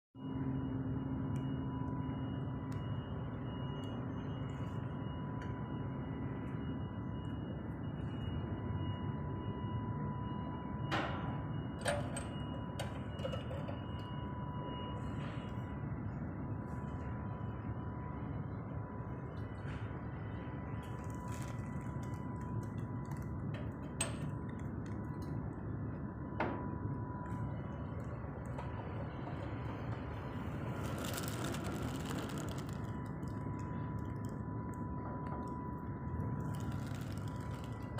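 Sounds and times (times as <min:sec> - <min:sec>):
machinery humming: 0:00.2 - 0:37.9
thin high whine: 0:00.2 - 0:37.9.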